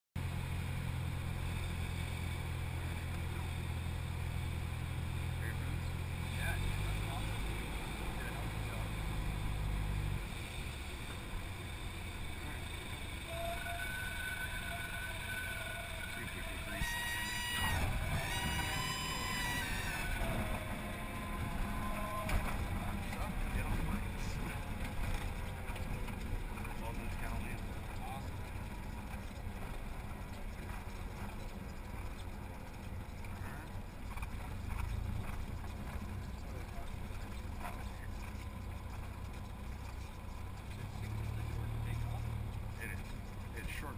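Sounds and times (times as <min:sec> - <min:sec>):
aircraft engine idling: 0:00.2 - 0:43.9
wheels rumbling on runway: 0:00.2 - 0:43.9.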